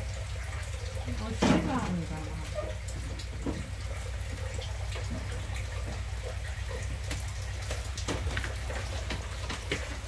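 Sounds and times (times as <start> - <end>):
kitchen tap running water: 0.0 - 10.0
low steady hum: 0.0 - 10.0.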